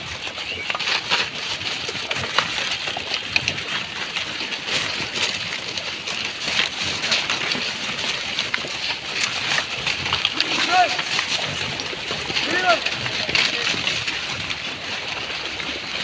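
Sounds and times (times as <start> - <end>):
pigs rustling through plastic litter: 0.0 - 16.0.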